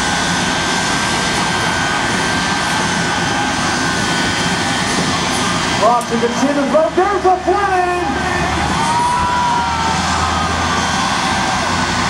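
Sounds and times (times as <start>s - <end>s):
high turbine whine: 0.0s - 12.0s
jet engine roar: 0.0s - 12.0s.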